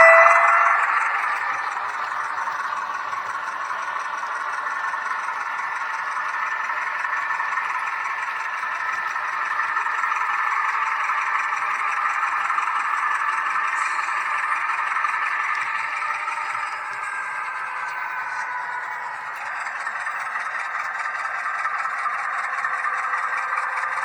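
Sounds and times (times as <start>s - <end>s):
model train whirring: 0.0s - 24.0s.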